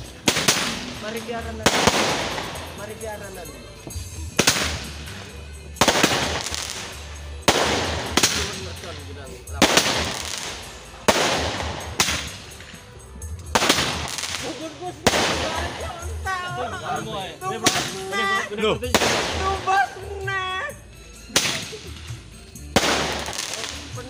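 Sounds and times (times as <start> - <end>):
fireworks bangs echoing: 0.0 - 16.3, 17.6 - 18.2, 18.9 - 20.2, 21.3 - 24.0.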